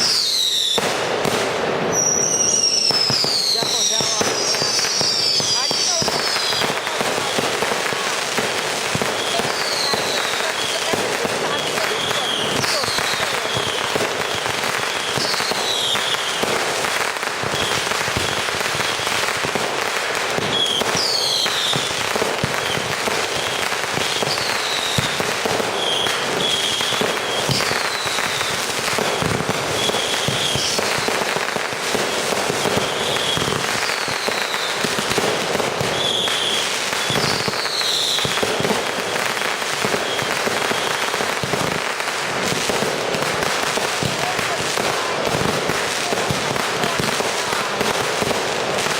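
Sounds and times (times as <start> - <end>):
fireworks bangs and crackle: 0.0 - 48.9
fireworks falling whistles: 0.0 - 48.9.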